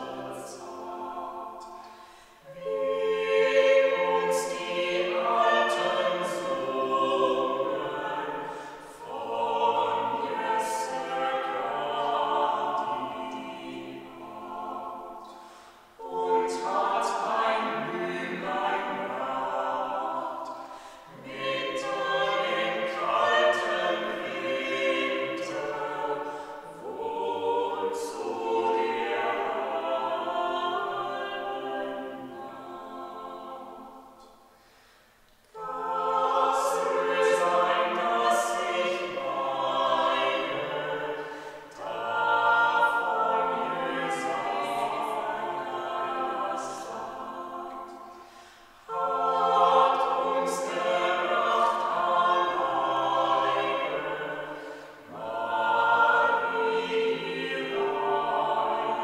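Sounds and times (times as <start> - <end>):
vocal ensemble singing: 0.0 - 59.0.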